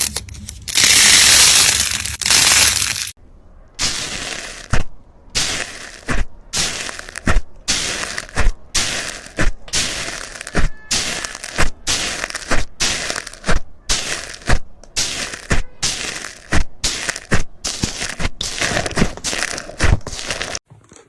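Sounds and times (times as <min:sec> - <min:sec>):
slime crackling and popping: 0:00.0 - 0:03.2, 0:05.4 - 0:20.6.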